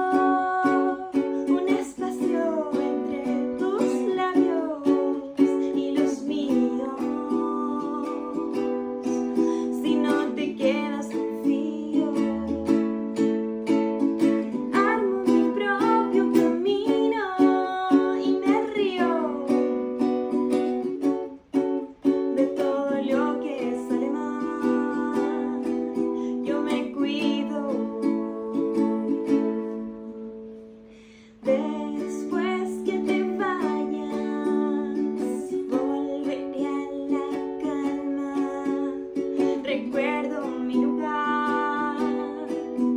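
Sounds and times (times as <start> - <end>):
woman singing slow song: 0.0 - 13.3, 14.2 - 20.0, 22.2 - 42.9
strummed acoustic strings: 0.0 - 42.9.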